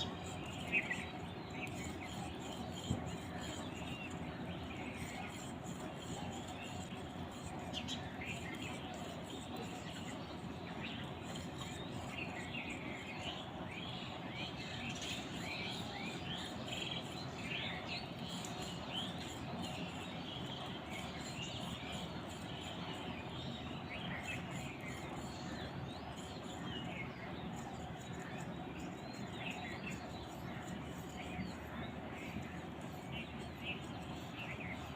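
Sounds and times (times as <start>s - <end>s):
birds chirping: 0.0s - 34.9s
steady background hiss: 0.0s - 34.9s.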